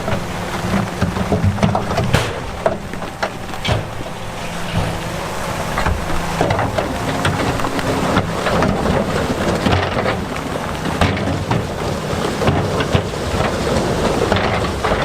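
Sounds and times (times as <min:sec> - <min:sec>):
heavy diesel machine running: 0:00.0 - 0:15.0.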